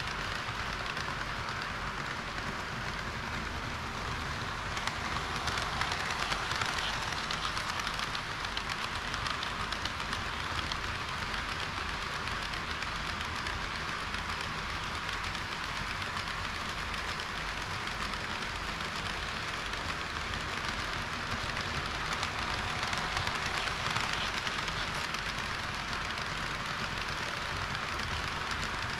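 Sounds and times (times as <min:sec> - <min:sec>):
model train wheels rattling on rail: 0:00.0 - 0:28.9
rapid fine clicking: 0:00.0 - 0:28.9.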